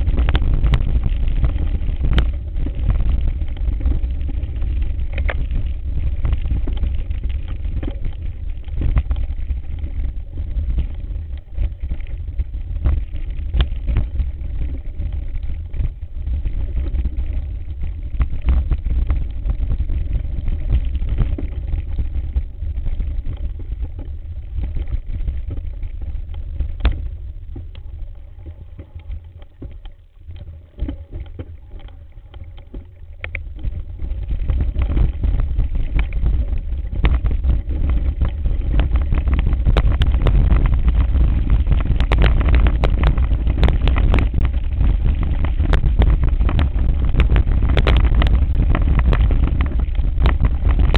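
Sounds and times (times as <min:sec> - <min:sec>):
wind on microphone: 0:00.0 - 0:50.9.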